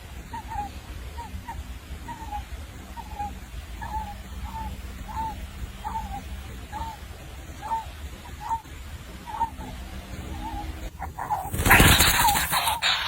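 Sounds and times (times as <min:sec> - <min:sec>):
young bird calling: 0:00.0 - 0:13.0.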